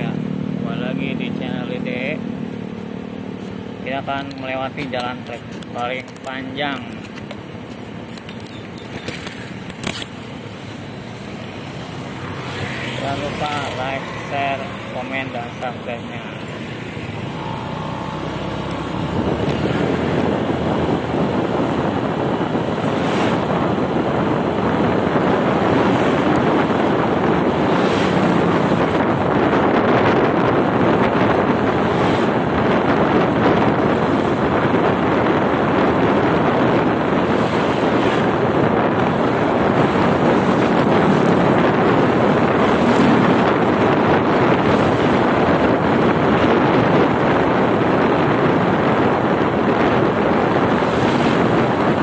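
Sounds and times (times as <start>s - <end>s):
motorcycle engine: 0.0s - 3.9s, 8.2s - 46.7s
road noise: 0.0s - 52.0s
wind rushing over microphone: 0.0s - 52.0s.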